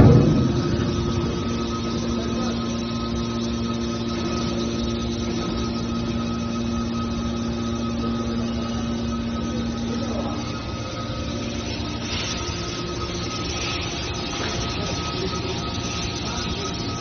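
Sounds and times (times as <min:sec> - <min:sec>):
hydraulic machine hum: 0:00.0 - 0:17.0.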